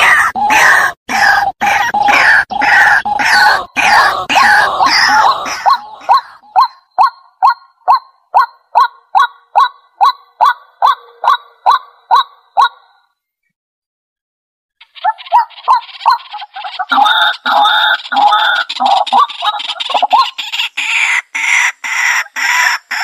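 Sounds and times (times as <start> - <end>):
bird calling: 0.0 - 13.1, 14.8 - 23.0.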